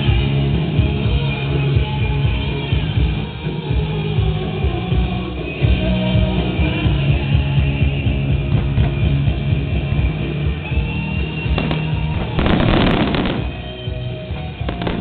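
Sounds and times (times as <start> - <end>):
loud music with steady bass: 0.0 - 15.0.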